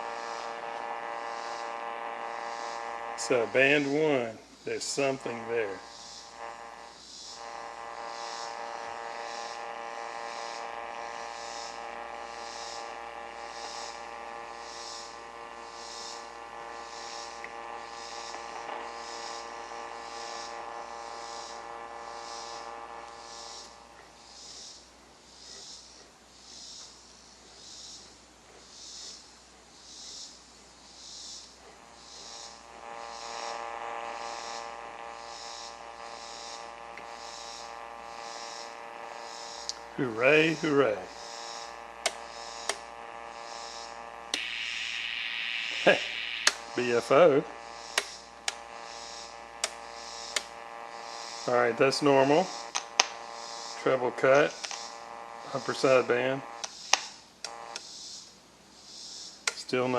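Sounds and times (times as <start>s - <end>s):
radio loudspeaker buzz: 0.0s - 24.0s, 31.7s - 57.8s
pulsing high hiss: 0.0s - 25.9s, 29.9s - 59.9s.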